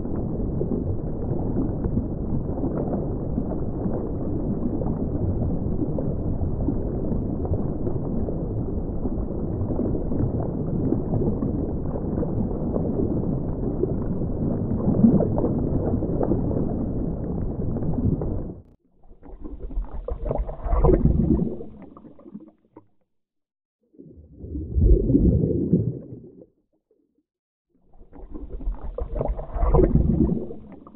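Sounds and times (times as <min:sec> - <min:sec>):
bubbling gurgles: 0:00.0 - 0:22.9, 0:23.9 - 0:26.6, 0:27.9 - 0:30.9
muffled underwater water rush: 0:00.0 - 0:23.0, 0:23.8 - 0:27.1, 0:27.8 - 0:30.9.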